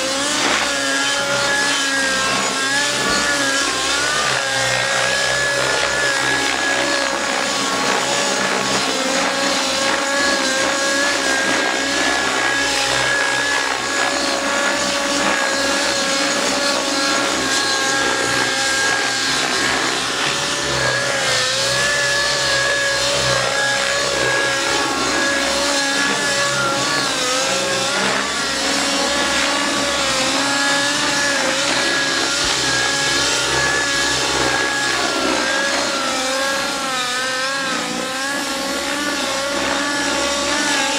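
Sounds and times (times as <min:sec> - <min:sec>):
model helicopter engine and rotor: 0:00.0 - 0:40.9.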